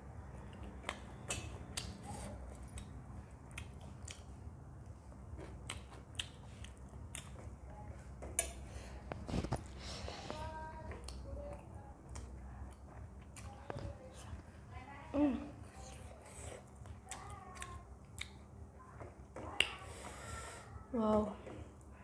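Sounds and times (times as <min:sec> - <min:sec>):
low steady hum: 0:00.0 - 0:22.0
person chewing food: 0:00.3 - 0:14.4, 0:15.6 - 0:20.5.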